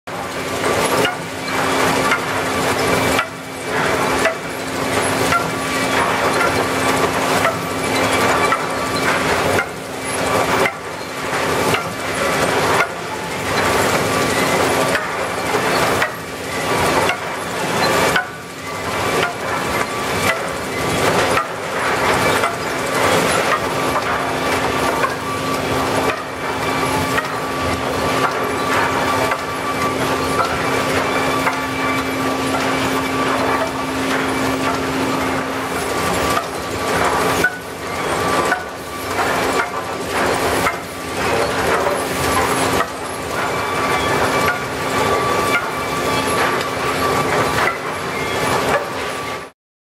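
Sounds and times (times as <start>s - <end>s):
machinery hum with whine: 0.1s - 49.5s.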